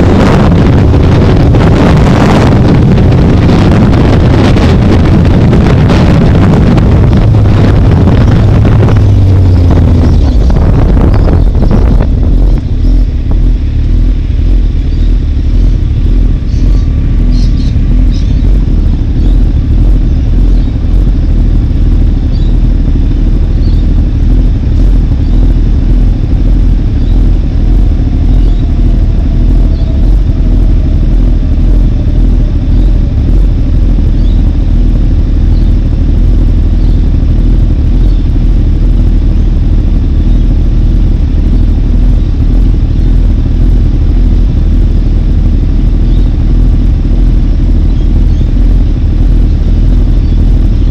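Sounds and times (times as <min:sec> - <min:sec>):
engine idling: 0:00.0 - 0:50.9
wind rushing over microphone: 0:00.0 - 0:50.9.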